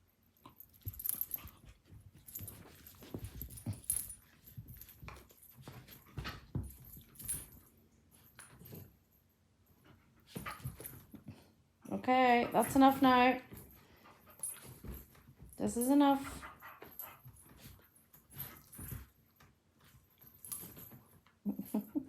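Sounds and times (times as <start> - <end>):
light metallic jingle: 0.1 - 22.0
dogs scuffling and thumping: 0.4 - 11.5, 12.1 - 22.0.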